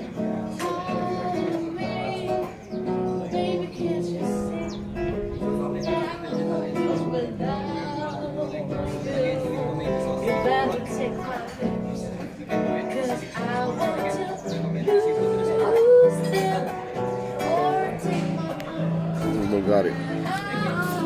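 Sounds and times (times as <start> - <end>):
acoustic guitar strumming: 0.0 - 21.0
woman singing into a microphone: 0.0 - 21.0.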